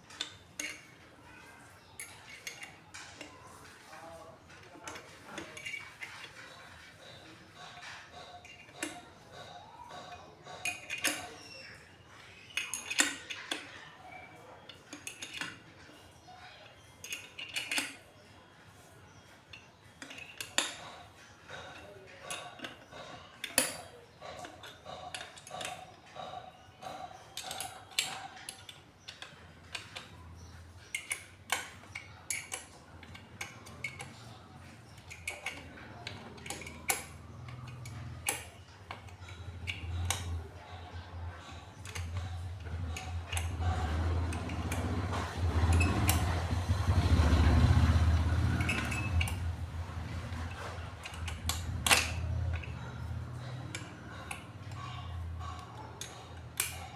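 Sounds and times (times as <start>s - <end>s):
metal tools clinking: 0.0s - 56.9s.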